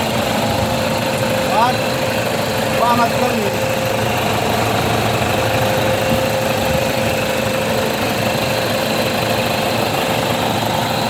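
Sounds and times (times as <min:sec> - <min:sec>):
car engine idling: 0:00.0 - 0:11.0
thin steady whine: 0:00.0 - 0:11.0.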